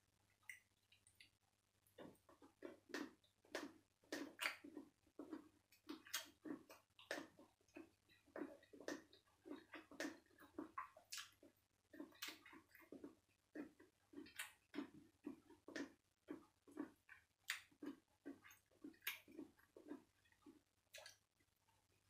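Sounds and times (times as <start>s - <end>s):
chewing and lip-smacking: 0.3s - 21.7s.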